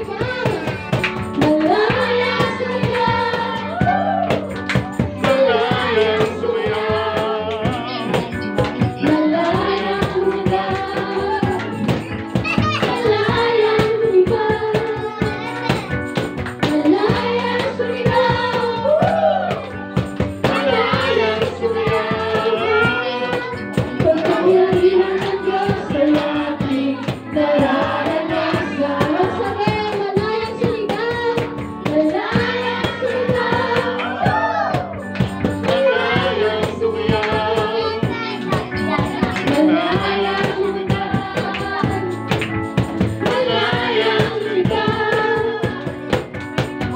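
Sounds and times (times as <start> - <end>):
group singing worship song: 0.0 - 12.1, 12.9 - 15.1, 16.6 - 46.3
instrumental accompaniment: 0.0 - 46.9.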